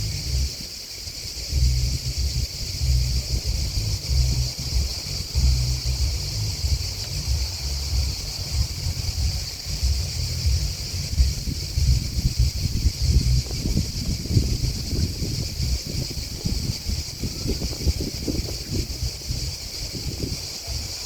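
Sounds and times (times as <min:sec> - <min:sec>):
grasshoppers and crickets chirring: 0:00.0 - 0:21.0
wind buffeting microphone: 0:00.0 - 0:21.0.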